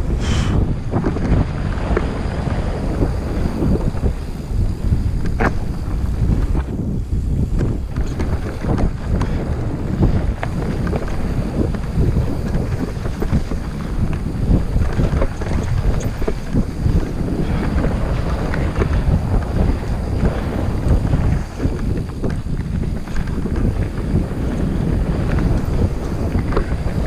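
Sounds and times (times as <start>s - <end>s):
wind buffeting microphone: 0.0s - 27.0s
bike clicks and rattles: 0.6s - 27.0s.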